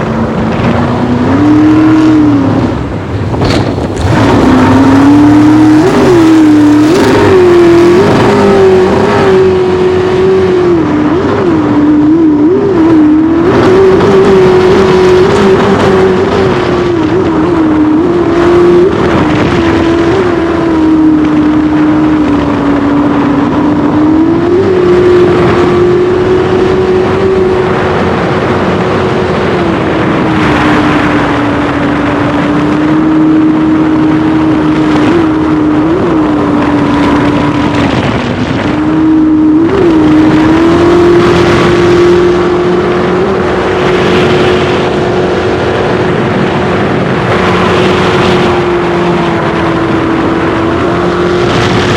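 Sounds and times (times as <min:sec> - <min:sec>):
jet boat engine at high revs: 0:00.0 - 0:51.9.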